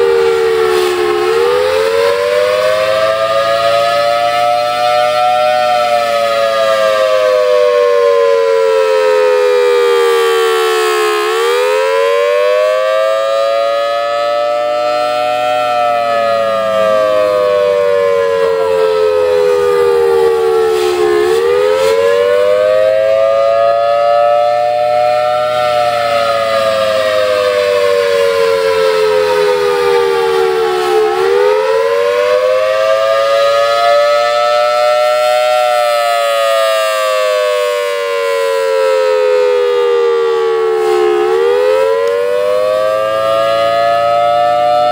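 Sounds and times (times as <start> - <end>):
two-tone warning siren: 0.0 - 44.9.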